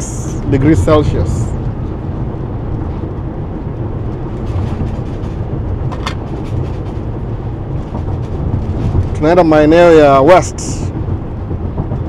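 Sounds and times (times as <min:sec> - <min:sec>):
van road and engine noise: 0:00.0 - 0:12.0.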